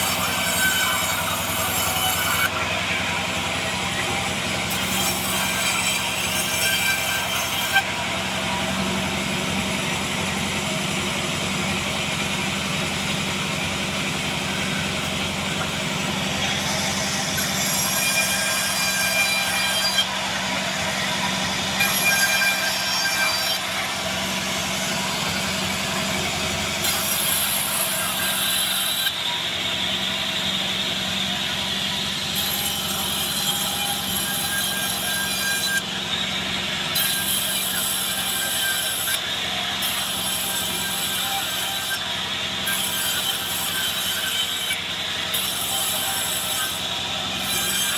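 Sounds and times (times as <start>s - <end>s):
band saw drone: 0.0s - 47.9s.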